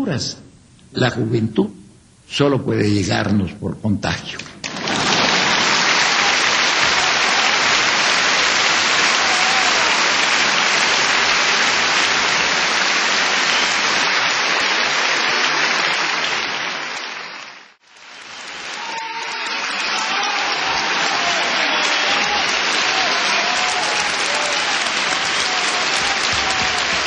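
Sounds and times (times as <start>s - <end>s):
audience applauding: 4.6s - 27.0s.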